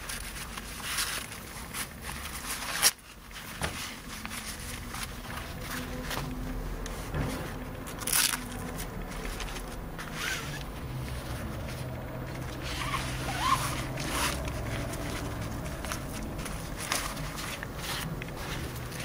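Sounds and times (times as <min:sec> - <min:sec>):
rod protectors rubbing and scraping: 0:00.0 - 0:19.0.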